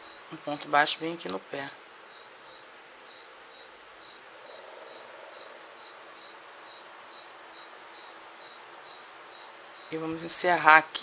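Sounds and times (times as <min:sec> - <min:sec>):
faint hiss: 0:00.0 - 0:11.0
insect trilling: 0:00.0 - 0:11.0.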